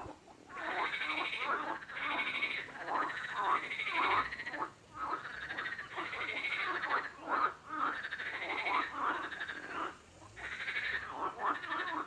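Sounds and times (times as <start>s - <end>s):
frogs croaking: 0.5s - 12.0s.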